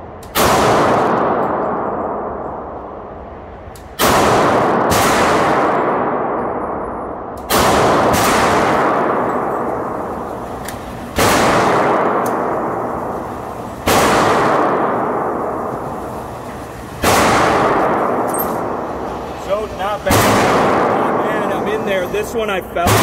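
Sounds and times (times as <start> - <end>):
pistol shots echoing indoors: 0.0 - 19.1, 20.1 - 21.6.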